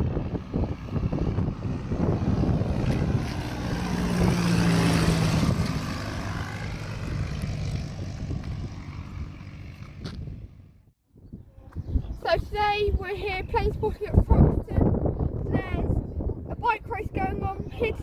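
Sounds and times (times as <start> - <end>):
propeller aircraft engine passing: 0.0 - 18.0.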